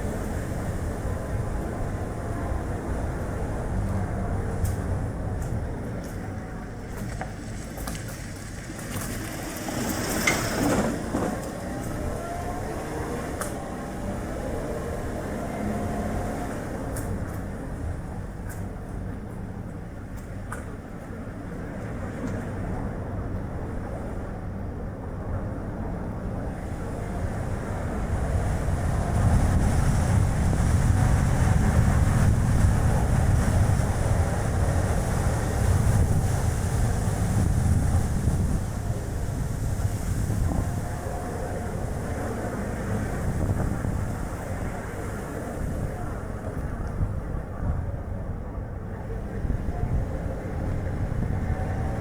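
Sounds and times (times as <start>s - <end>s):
car tyre and road noise: 0.0s - 52.0s
wind buffeting microphone: 0.0s - 52.0s.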